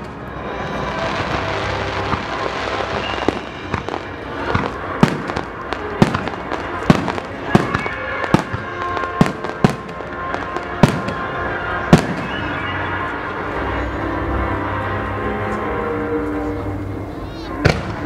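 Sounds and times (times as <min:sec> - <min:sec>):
continuous rumbling din: 0:00.0 - 0:18.0
music: 0:00.0 - 0:18.0.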